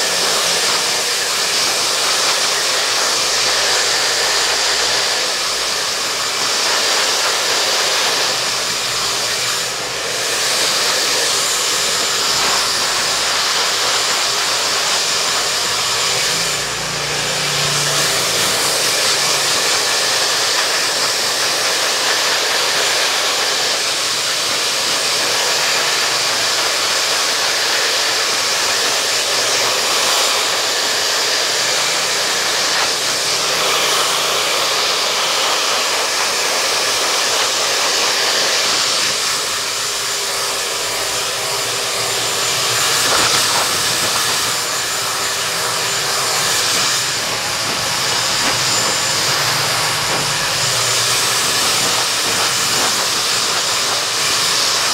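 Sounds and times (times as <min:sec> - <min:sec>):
hair dryer blowing: 0:00.0 - 0:54.9.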